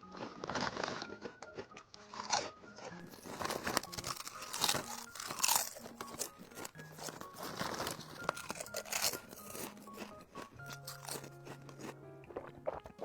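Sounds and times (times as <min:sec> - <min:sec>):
potato chips crunching: 0:00.0 - 0:13.0.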